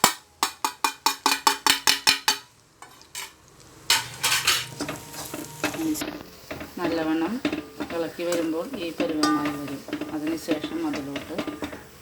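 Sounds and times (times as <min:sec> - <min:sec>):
spoon tapping against pan: 0:00.0 - 0:12.0
spoon scraping pan: 0:00.4 - 0:12.0.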